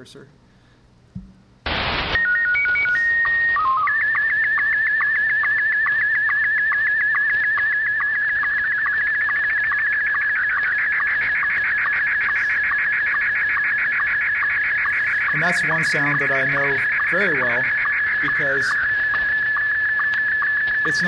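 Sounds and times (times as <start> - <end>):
rapid ticking sync pulses: 1.7 - 21.0
steady beeping tones: 1.7 - 21.0
warbling signal tone: 1.7 - 21.0.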